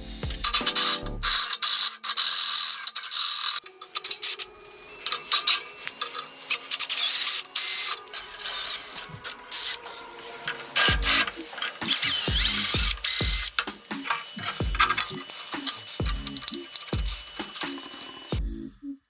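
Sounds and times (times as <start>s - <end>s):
electric drill grinding into steel: 0.0s - 18.4s
drill bit squealing: 0.4s - 18.4s.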